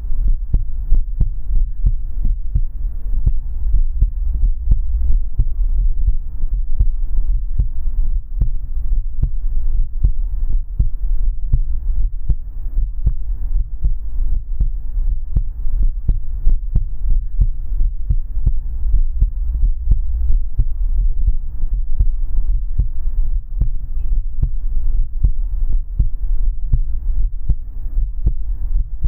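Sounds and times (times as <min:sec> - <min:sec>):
continuous low hum: 0:00.0 - 0:29.0
heartbeat thumps: 0:00.0 - 0:29.0.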